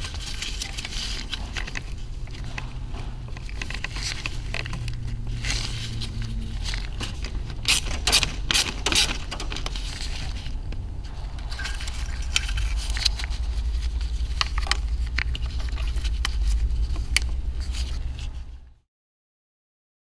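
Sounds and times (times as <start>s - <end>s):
hands handling plastic hoses: 0.0s - 18.5s
steady low hum: 0.0s - 18.8s.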